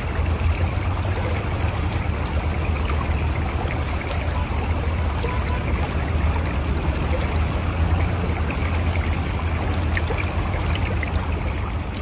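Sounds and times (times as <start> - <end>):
river flowing over rocks: 0.0 - 12.0.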